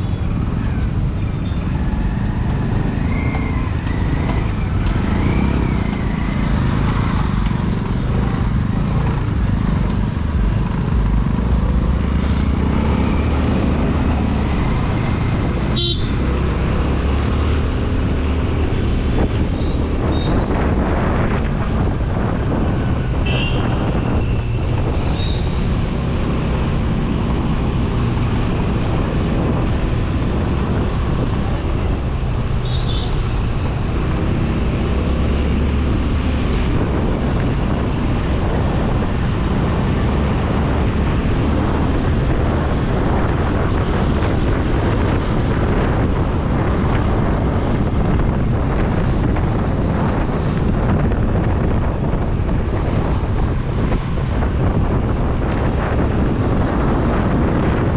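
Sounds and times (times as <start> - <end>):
motorcycle engine humming: 0.0 - 57.9
wind buffeting microphone: 0.0 - 57.9.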